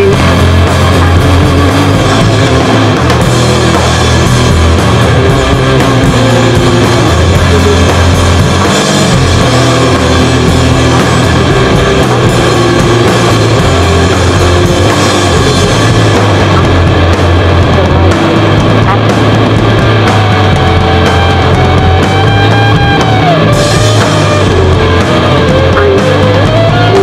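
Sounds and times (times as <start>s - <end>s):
punk rock music: 0.0s - 27.0s.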